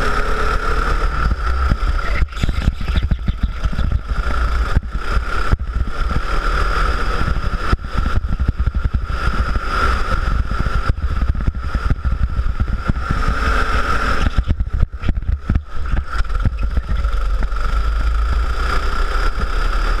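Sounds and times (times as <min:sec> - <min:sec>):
go-kart engine running: 0:00.0 - 0:20.0
wind rumble on microphone: 0:00.0 - 0:20.0.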